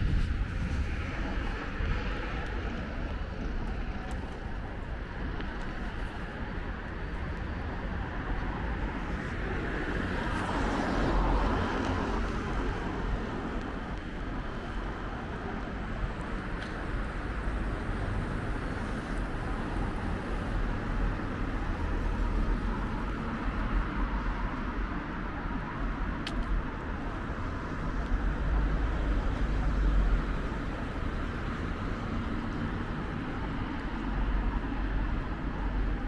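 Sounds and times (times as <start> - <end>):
rumble of passing vehicles: 0.0 - 36.0.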